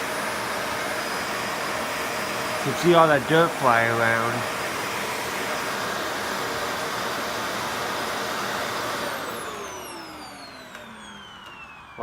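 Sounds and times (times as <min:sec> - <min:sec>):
vacuum cleaner running: 0:00.0 - 0:12.0
vacuum motor winding down: 0:00.0 - 0:12.0.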